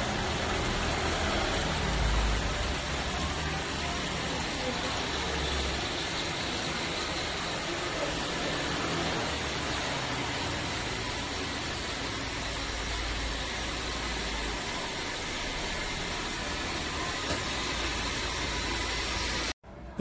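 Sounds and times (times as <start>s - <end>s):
water spray hissing on car: 0.0s - 19.6s.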